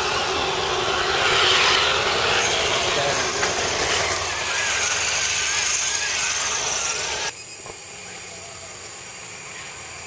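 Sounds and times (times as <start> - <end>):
electric motor and gear whine: 0.0 - 10.0.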